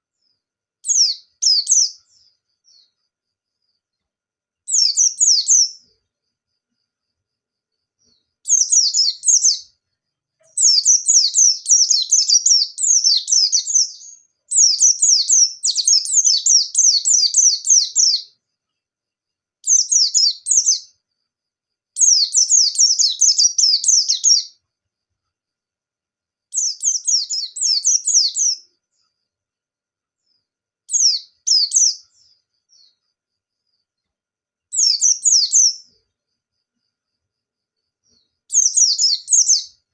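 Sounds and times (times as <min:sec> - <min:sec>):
bird twittering song: 0:00.0 - 0:21.2, 0:21.9 - 0:24.7, 0:26.5 - 0:29.3, 0:30.2 - 0:34.1, 0:34.7 - 0:39.9.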